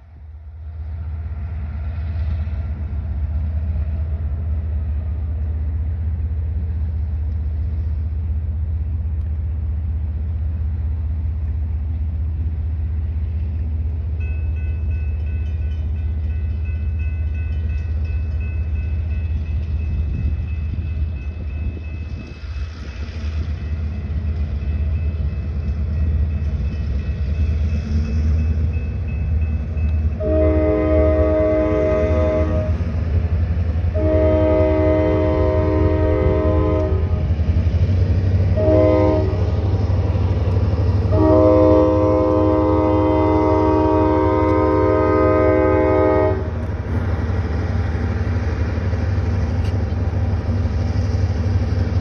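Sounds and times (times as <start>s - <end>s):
diesel locomotive engine rumble: 0.0s - 52.0s.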